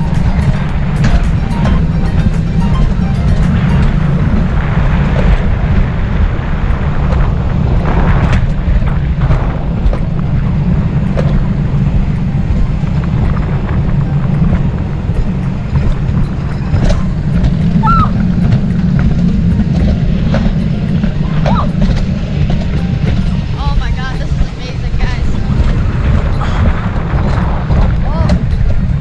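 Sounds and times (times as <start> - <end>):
bobsled rumbling on track: 0.0 - 29.0
wind buffeting microphone: 0.0 - 29.0.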